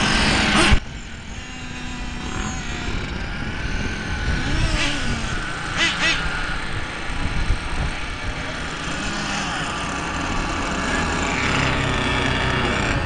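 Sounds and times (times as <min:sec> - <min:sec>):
small motors buzzing and whining: 0:00.0 - 0:13.0.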